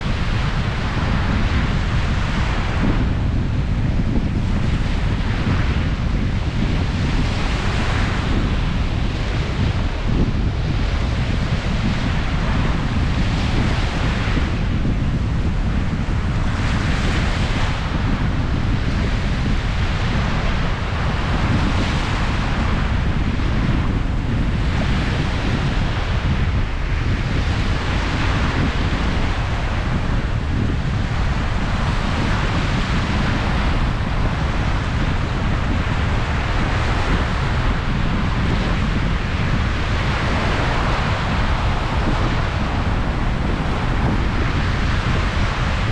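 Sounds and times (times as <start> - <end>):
sea waves washing in: 0.0 - 45.9
wind rumble on microphone: 0.0 - 45.9.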